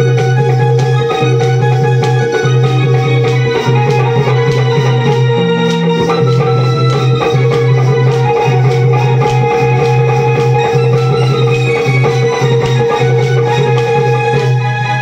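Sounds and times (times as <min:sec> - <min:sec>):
pulsing low note: 0:00.0 - 0:14.8
held higher note: 0:00.0 - 0:15.0
melody line: 0:00.0 - 0:15.0
percussion: 0:00.0 - 0:15.0.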